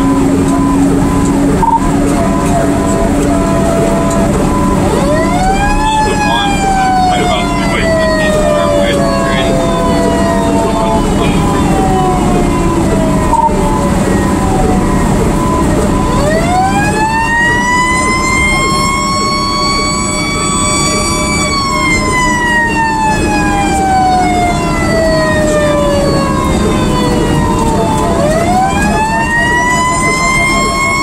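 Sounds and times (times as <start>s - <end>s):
fire engine siren wailing: 0.0s - 31.0s
truck engine: 0.0s - 31.0s.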